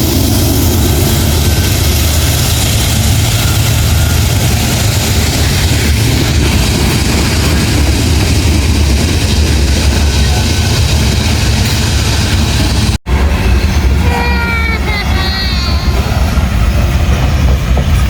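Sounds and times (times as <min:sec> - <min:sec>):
train passing close by: 0:00.0 - 0:18.0.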